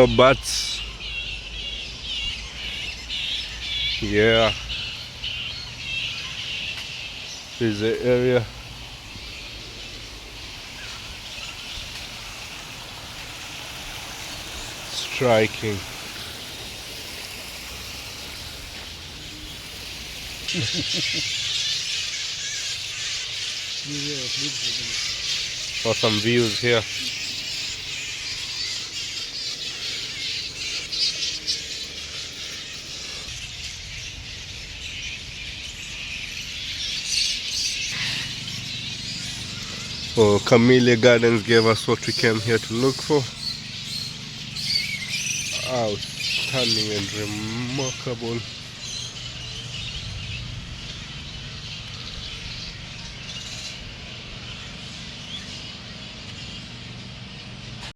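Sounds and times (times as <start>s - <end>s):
birds chirping and twittering: 0.0s - 57.9s
high chattering animal calls: 0.0s - 57.9s.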